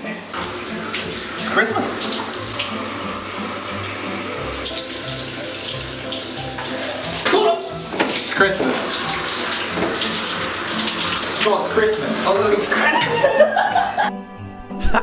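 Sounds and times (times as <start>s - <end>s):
shower water spraying: 0.0s - 14.1s.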